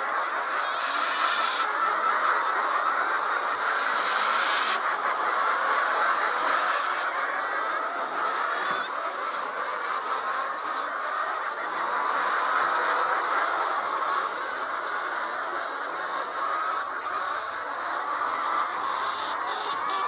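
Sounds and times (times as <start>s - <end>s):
flock of hens clucking: 0.0s - 20.0s.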